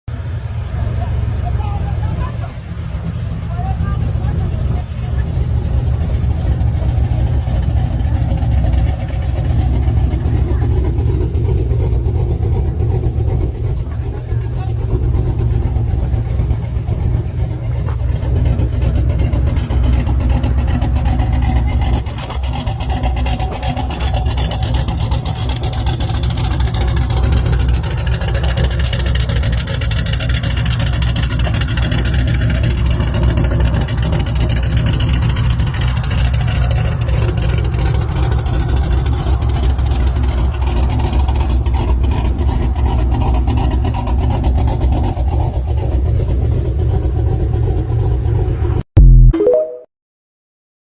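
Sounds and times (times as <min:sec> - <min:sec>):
engine running: 0:00.0 - 0:49.3.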